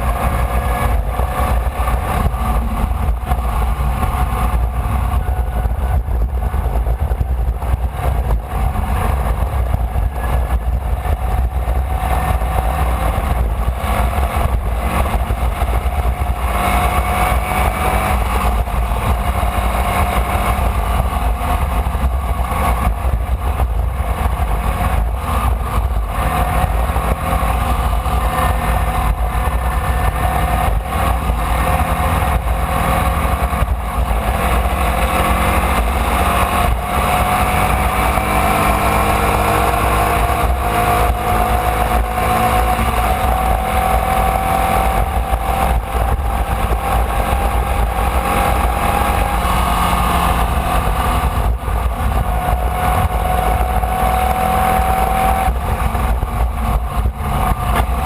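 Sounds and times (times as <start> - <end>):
racing car engine running hard: 0.0 - 58.0.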